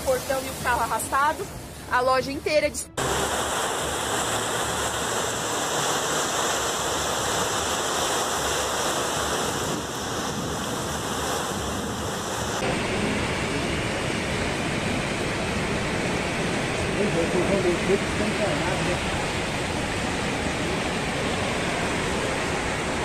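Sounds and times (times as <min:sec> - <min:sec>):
heavy rain: 0:00.0 - 0:02.3, 0:02.9 - 0:23.0
rushing floodwater: 0:00.0 - 0:23.0.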